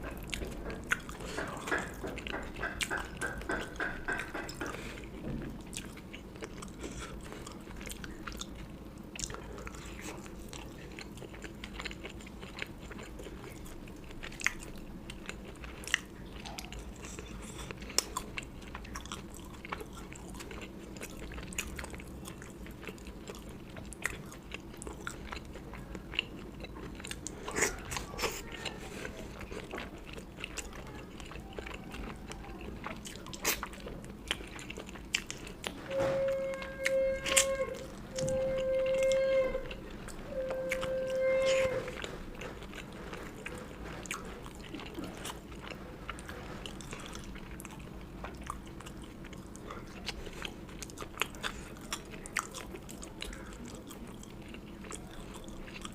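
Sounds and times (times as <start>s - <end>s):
faint low hum: 0.0s - 55.9s
person chewing and crunching: 0.0s - 55.9s.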